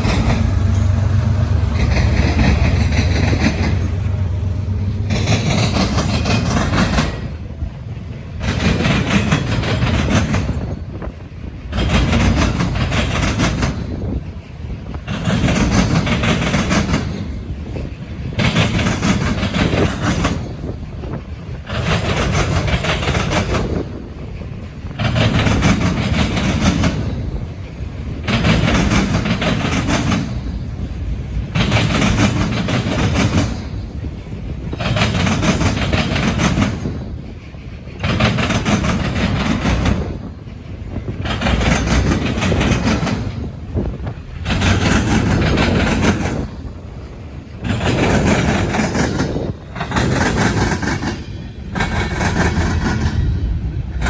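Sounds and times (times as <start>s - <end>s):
railroad cars rolling past: 0.0s - 54.0s.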